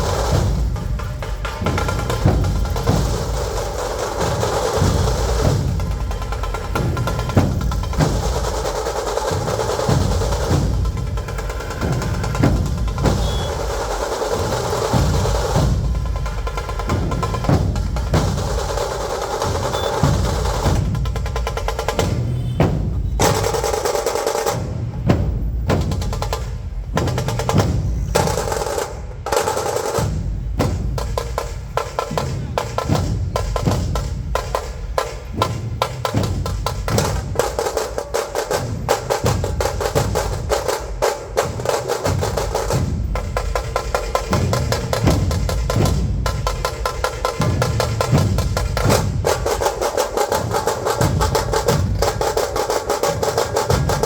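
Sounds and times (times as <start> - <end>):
dhol drums beating: 0.0 - 54.0.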